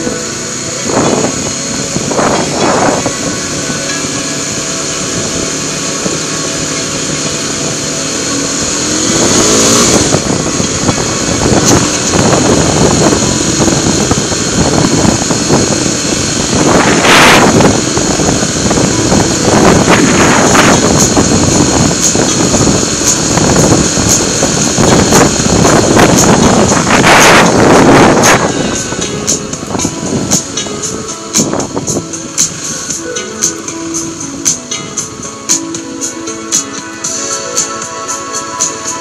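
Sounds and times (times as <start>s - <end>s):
loud rush: 0.0s - 39.0s
motorcycle engine revving: 0.0s - 39.0s.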